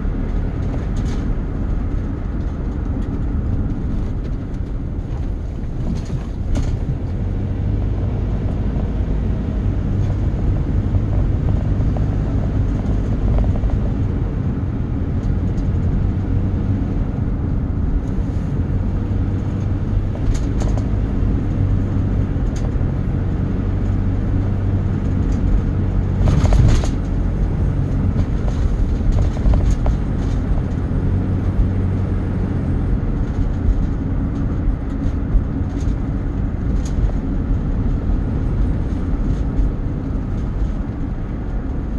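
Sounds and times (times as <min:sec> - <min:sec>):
vehicle engine rumble: 0:00.0 - 0:41.9.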